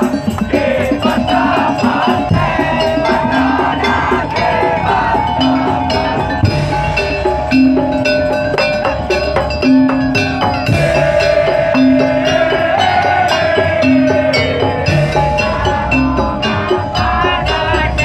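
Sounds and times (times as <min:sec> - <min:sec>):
drums and percussion ensemble: 0:00.0 - 0:18.0
wavering melody line: 0:00.0 - 0:18.0.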